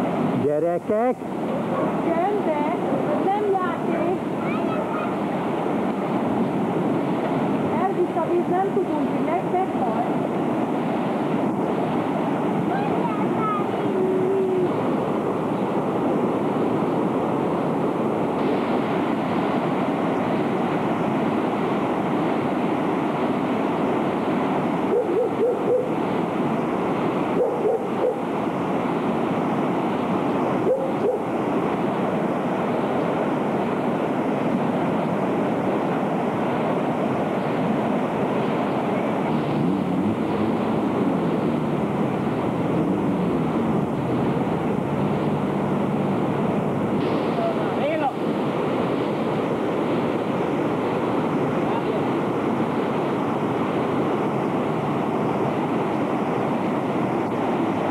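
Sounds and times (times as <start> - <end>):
flooded stream rushing: 0.0 - 57.9.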